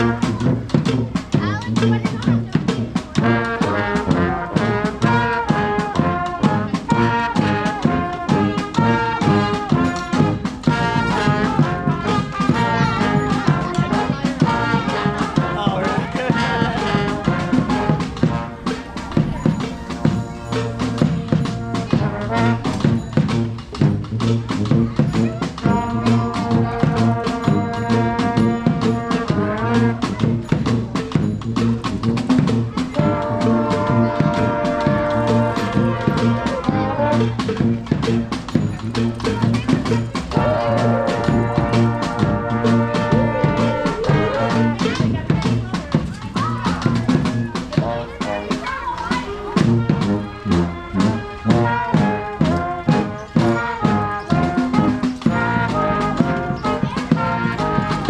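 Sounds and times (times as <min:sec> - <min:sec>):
brass band horns playing: 0:00.0 - 0:58.0
steady drum beat: 0:00.0 - 0:58.0.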